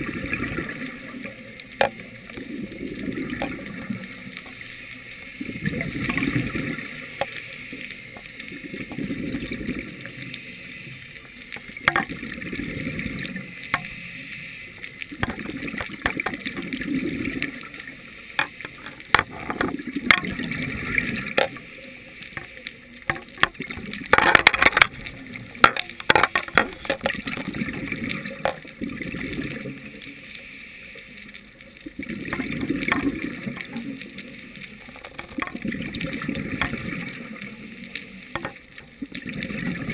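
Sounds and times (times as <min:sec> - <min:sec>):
bubbles gurgling: 0:00.0 - 0:10.2, 0:11.6 - 0:13.8, 0:15.1 - 0:21.6, 0:23.0 - 0:30.1, 0:31.5 - 0:39.9.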